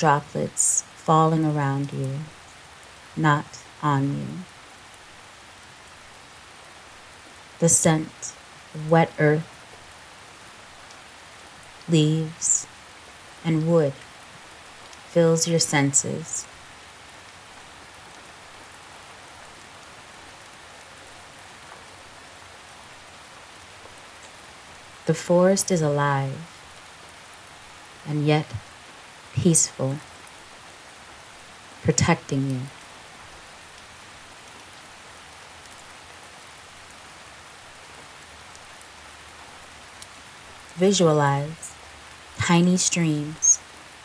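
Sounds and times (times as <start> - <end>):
steady rain in a forest: 0.0 - 44.0.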